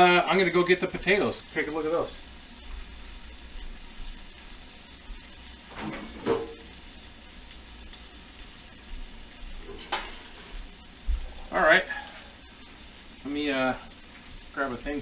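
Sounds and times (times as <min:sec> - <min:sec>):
bacon sizzling in a frying pan: 0:00.0 - 0:15.0.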